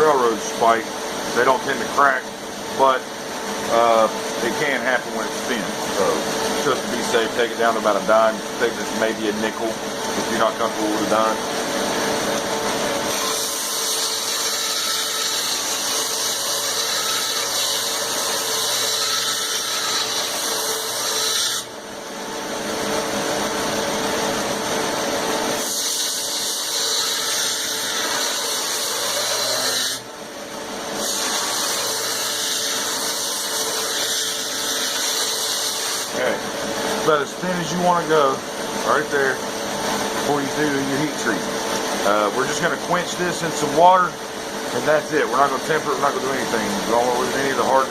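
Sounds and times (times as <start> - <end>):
grinder grinding steel: 0.0 - 21.7, 25.0 - 30.1, 30.8 - 47.9
grinder motor hum: 0.0 - 47.9.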